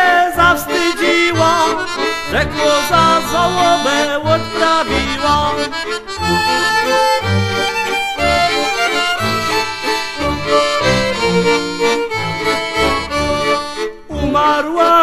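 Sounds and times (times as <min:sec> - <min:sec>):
accordion: 0:00.0 - 0:15.0
fiddle playing melody: 0:00.0 - 0:15.0.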